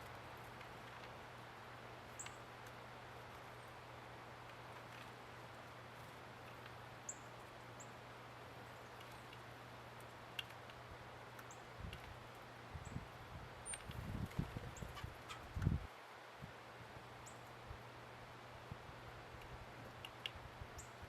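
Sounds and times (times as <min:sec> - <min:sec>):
small birds chip calls: 0:00.0 - 0:15.8, 0:19.2 - 0:21.0
outdoor hiss: 0:00.0 - 0:21.0.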